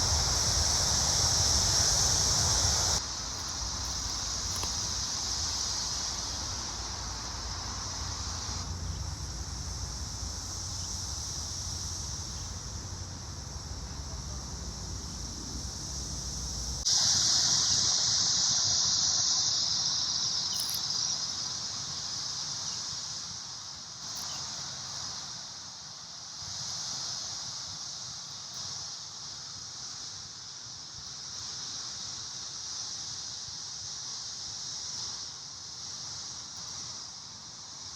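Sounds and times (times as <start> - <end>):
cicadas droning: 0.0 - 37.9.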